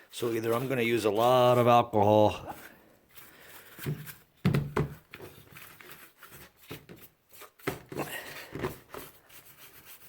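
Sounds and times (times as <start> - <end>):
paint brush scrubbing: 0.0 - 4.4, 5.2 - 10.0.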